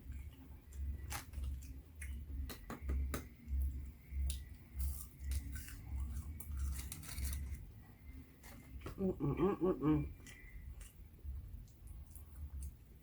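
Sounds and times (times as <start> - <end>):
person chewing and crunching: 0.0 - 13.0.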